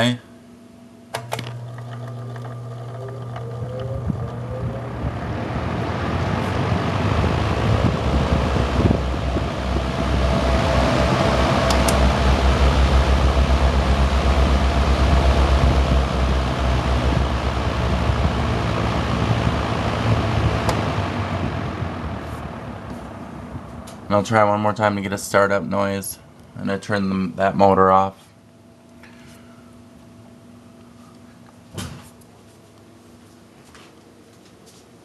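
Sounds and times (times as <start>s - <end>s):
box fan running: 0.0s - 35.0s.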